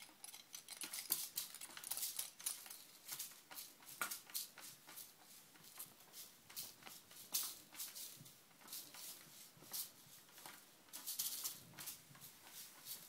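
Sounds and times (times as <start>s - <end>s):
soft rustles and swishes of toy: 0.1s - 13.0s.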